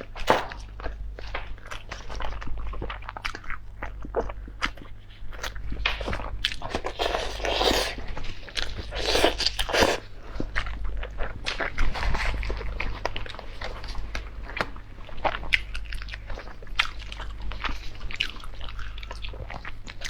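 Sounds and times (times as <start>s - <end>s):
person chewing and crunching: 0.0s - 20.0s
steady low hum: 0.0s - 20.0s.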